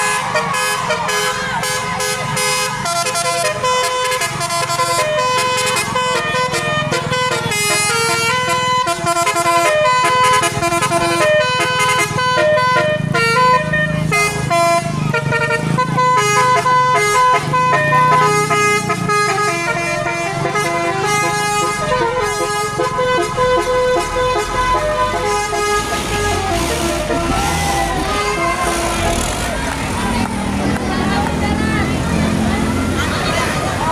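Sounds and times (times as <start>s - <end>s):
bus musical horn playing tune: 0.0s - 29.6s.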